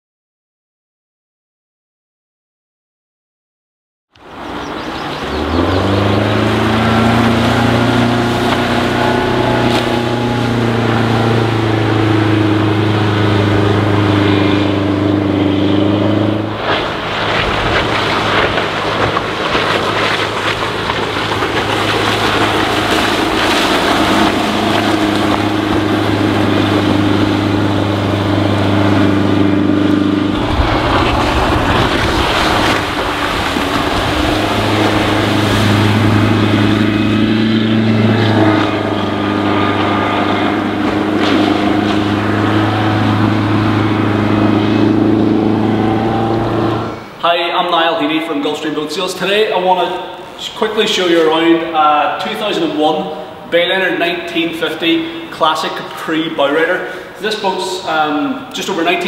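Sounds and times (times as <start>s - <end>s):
boat engine droning: 4.1s - 59.0s.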